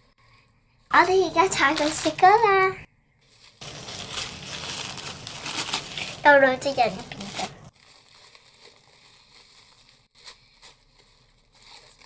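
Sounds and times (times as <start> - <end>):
tissue paper crinkling: 1.4 - 2.4, 3.2 - 12.0.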